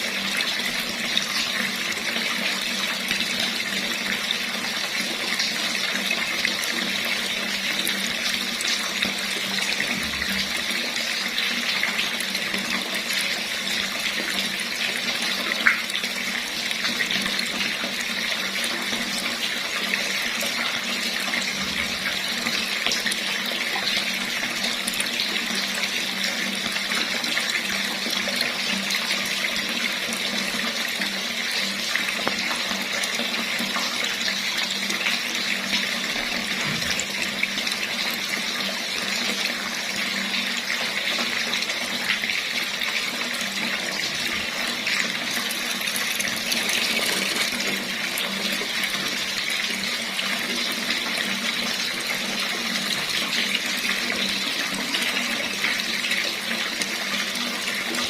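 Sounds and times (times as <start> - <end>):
water running from a tap: 0.0 - 58.0.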